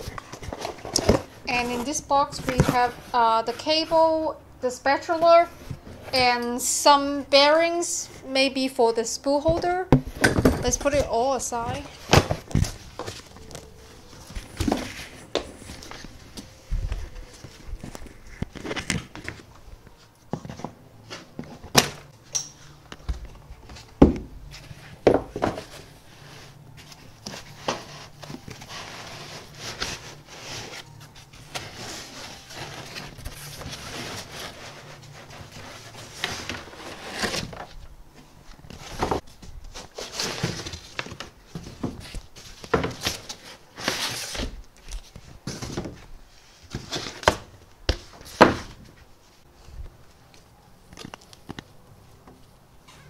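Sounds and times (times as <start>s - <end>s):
foam and cardboard rustling: 0.0s - 4.3s, 9.4s - 21.8s, 22.8s - 50.0s.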